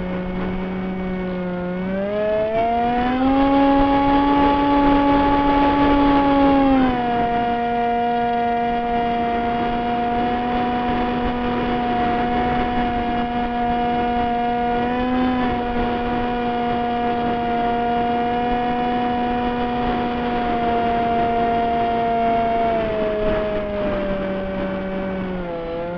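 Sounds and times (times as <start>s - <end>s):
model airplane motor whine: 0.0s - 25.9s
wind on microphone: 0.0s - 25.9s.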